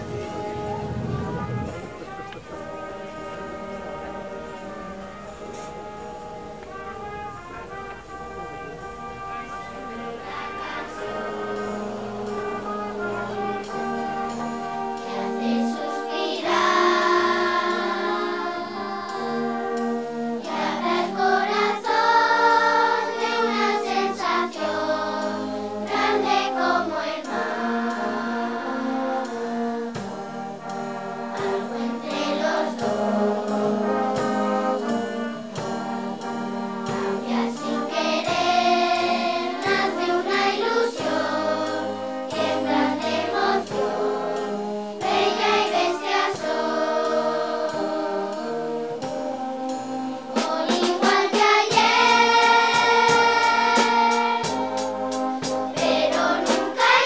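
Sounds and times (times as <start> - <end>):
children's choir singing: 0.0 - 57.0
wind band playing: 0.0 - 57.0.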